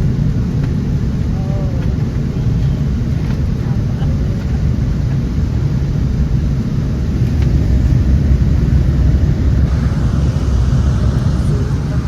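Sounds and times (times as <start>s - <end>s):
airliner engines rumbling in cabin: 0.0s - 12.0s.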